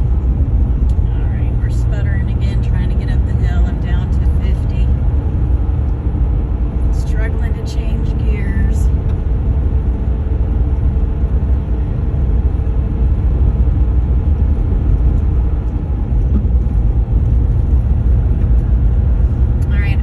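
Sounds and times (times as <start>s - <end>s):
road tyre and engine rumble: 0.0s - 20.0s.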